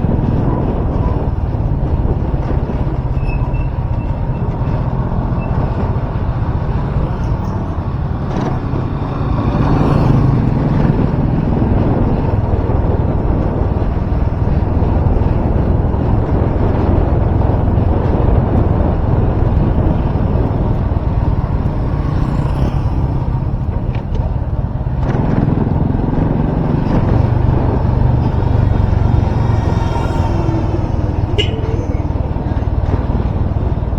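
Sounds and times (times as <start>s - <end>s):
vehicle and road noise: 0.0s - 33.9s
wind buffeting microphone: 0.0s - 33.9s.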